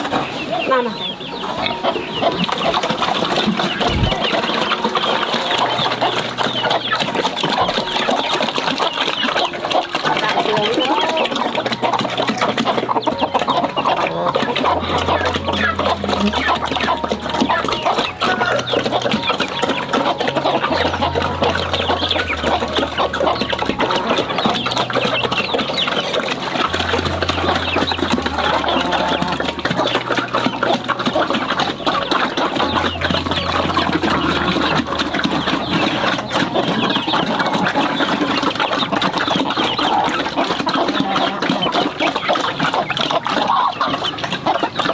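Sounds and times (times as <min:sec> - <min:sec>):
chickens clucking: 0:00.0 - 0:44.9
low repeating note pattern: 0:00.0 - 0:44.9.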